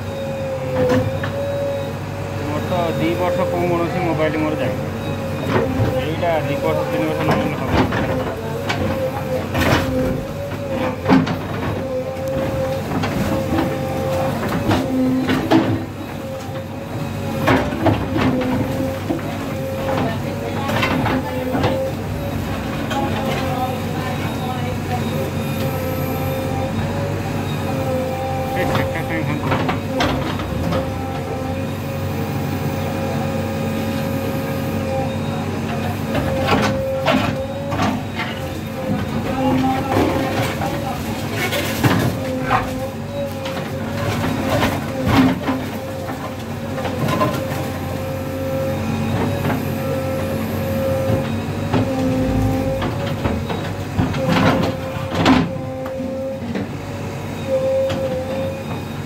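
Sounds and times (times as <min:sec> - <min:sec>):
diesel engine and hydraulics whine: 0:00.0 - 0:59.0.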